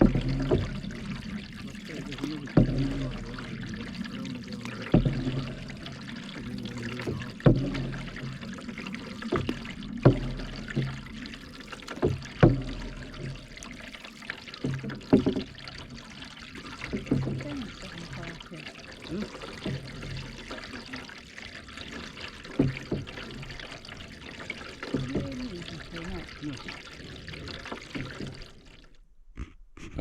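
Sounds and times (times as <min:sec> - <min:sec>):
paddle knocking: 0:00.0 - 0:29.0
water splashing off paddle: 0:00.0 - 0:29.0.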